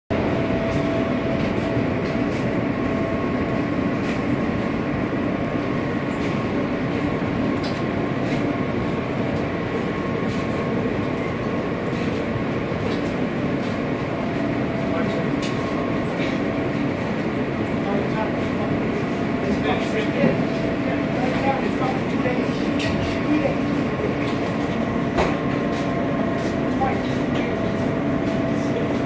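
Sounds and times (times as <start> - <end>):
subway car rumble and hum: 0.0 - 29.0.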